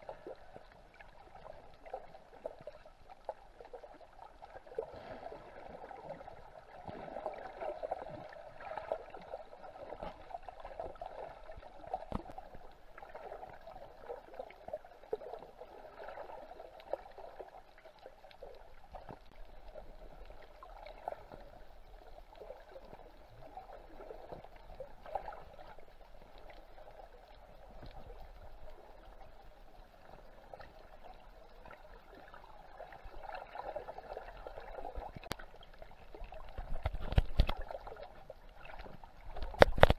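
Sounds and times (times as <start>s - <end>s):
muffled underwater wash: 0.0s - 39.9s
small underwater clicks and crackles: 0.0s - 39.9s.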